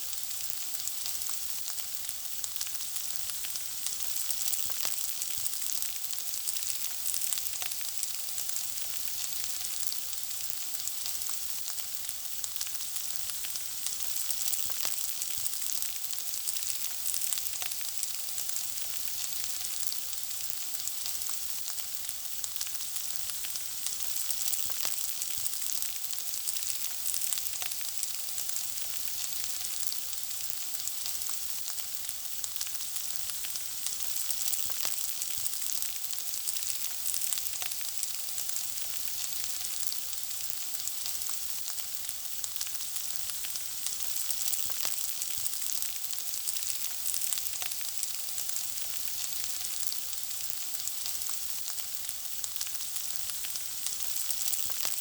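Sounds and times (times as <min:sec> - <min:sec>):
food frying with sizzle and pops: 0:00.0 - 0:55.0.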